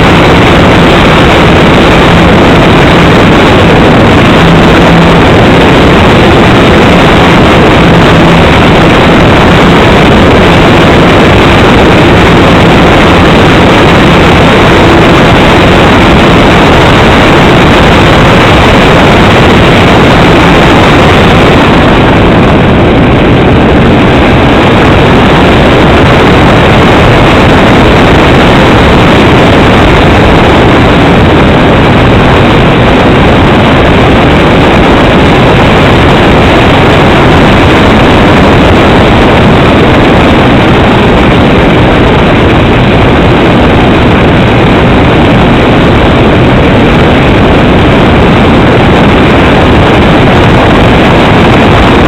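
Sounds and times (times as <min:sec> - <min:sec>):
twin propeller plane engines: 0:00.0 - 0:52.0.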